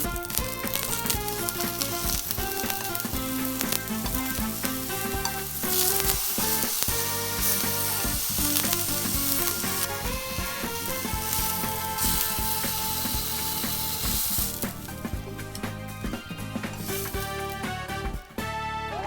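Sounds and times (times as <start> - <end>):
stirring in a pan: 0.0 - 18.3
vegetables sizzling in a pan: 0.0 - 18.3
background music: 0.0 - 19.0.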